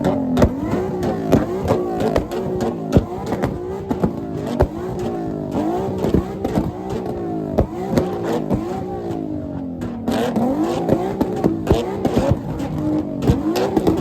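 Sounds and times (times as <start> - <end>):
car engine revving against limiter: 0.0 - 14.0
exhaust pops and bangs: 0.0 - 14.0.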